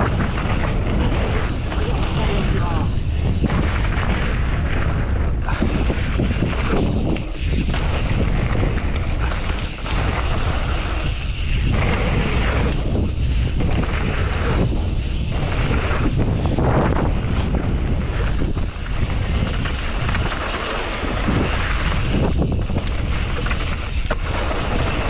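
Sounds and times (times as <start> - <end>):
bike knocking over rough ground: 0.0 - 25.0
wind buffeting microphone: 0.0 - 25.0.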